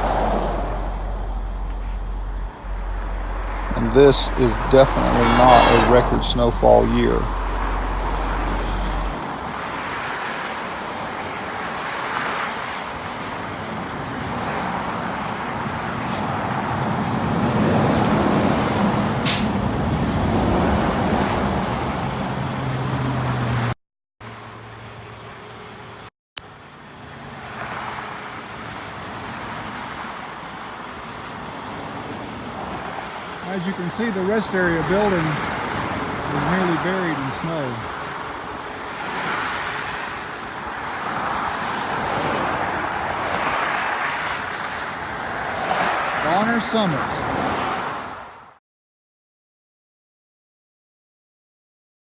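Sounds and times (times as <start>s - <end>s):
truck road and engine noise: 0.0s - 48.6s.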